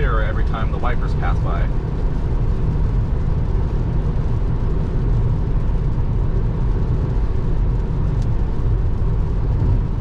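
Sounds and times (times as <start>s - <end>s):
road and tyre noise in car cabin: 0.0s - 10.0s.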